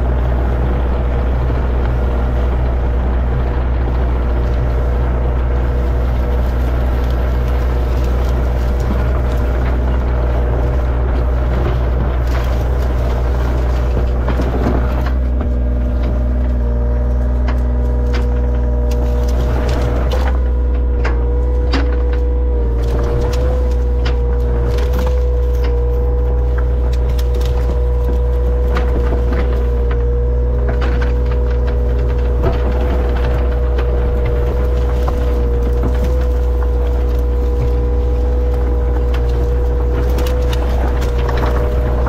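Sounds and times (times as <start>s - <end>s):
diesel engine humming: 0.0s - 42.0s
clanks and knocks: 1.8s - 42.0s.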